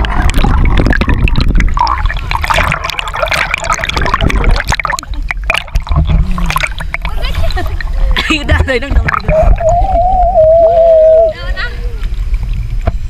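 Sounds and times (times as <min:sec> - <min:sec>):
low water rumble on microphone: 0:00.0 - 0:13.0
water sloshing and splashing: 0:00.0 - 0:13.0.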